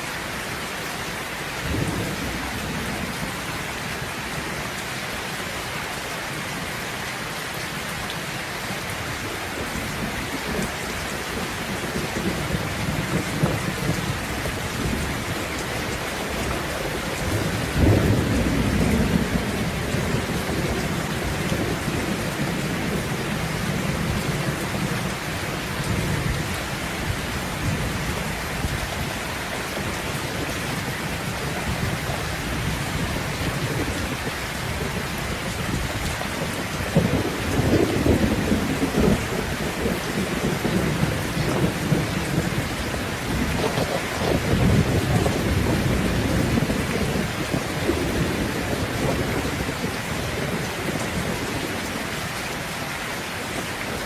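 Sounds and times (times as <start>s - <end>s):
heavy rain falling: 0.0s - 54.0s
thunder rumbling: 1.6s - 4.8s, 9.6s - 52.7s.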